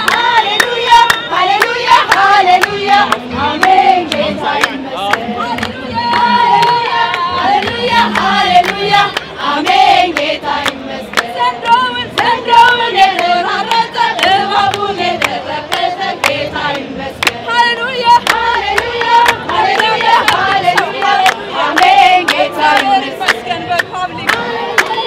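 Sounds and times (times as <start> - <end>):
sharp hand claps: 0.0 - 12.4, 13.1 - 16.4, 17.2 - 17.5, 18.2 - 25.0
women singing together: 0.0 - 25.0.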